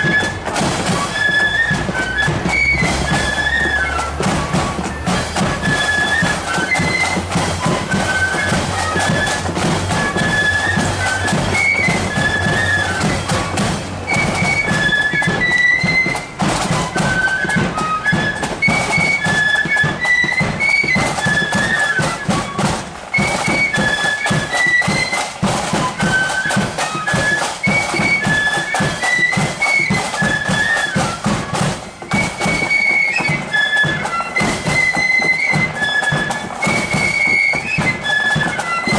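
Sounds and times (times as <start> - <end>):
high flute melody: 0.0 - 38.9
steady drumming: 0.0 - 38.9.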